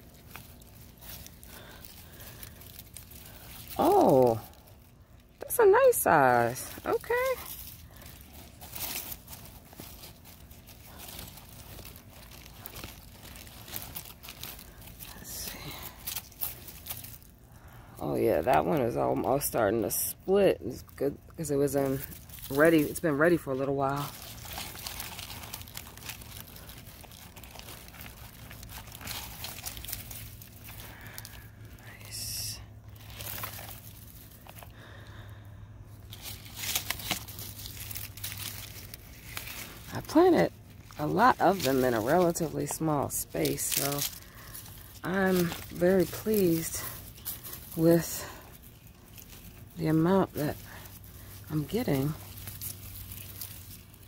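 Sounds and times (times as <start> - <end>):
dry garlic leaves rustling: 0.0 - 54.0
soil crumbling: 0.0 - 54.0.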